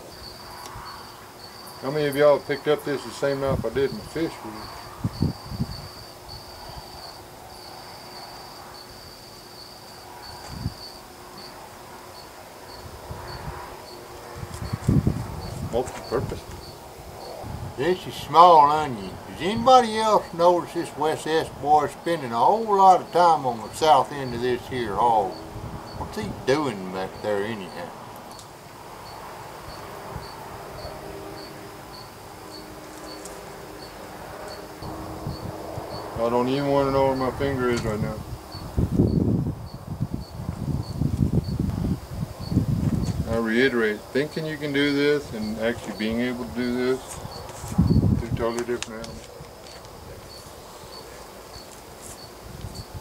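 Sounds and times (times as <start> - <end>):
cricket chirping: 0.0 - 53.0
night insects trilling: 0.0 - 53.0.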